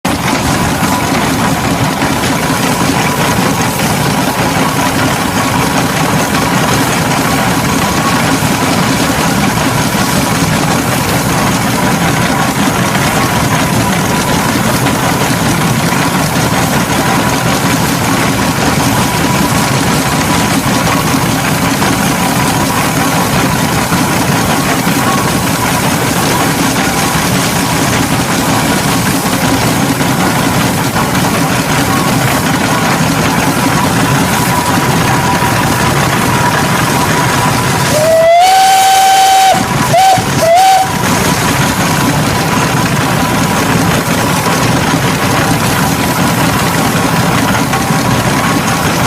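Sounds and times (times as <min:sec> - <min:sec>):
steam engine running: 0:00.0 - 0:49.0.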